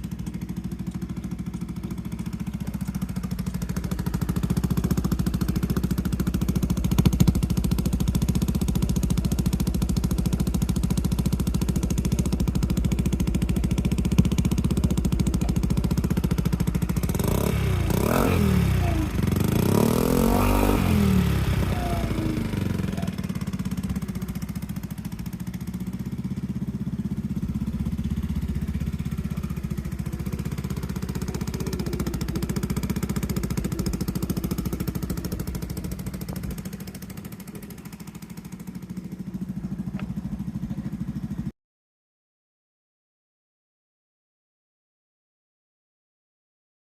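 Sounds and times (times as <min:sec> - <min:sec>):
scooter engine revving: 0:00.0 - 0:41.5
scooter engine running: 0:00.0 - 0:41.5.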